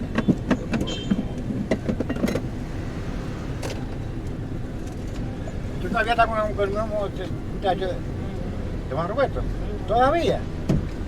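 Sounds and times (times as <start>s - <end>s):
vehicle interior rumble: 0.0s - 11.0s.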